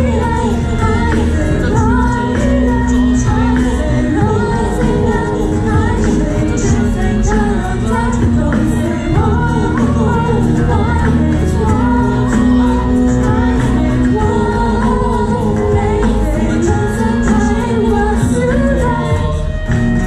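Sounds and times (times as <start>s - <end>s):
live pop band playing: 0.0s - 20.0s
woman singing: 0.0s - 20.0s.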